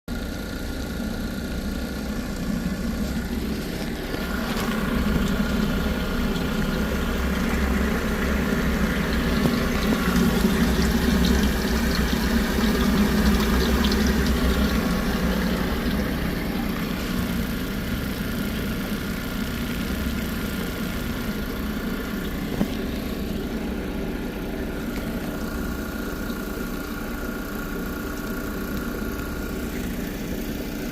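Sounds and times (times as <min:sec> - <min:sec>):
engine running: 0:00.1 - 0:30.9.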